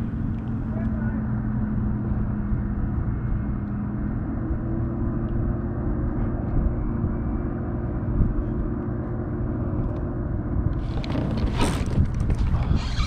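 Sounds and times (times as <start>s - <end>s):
droning engine-like hum: 0.0s - 13.0s.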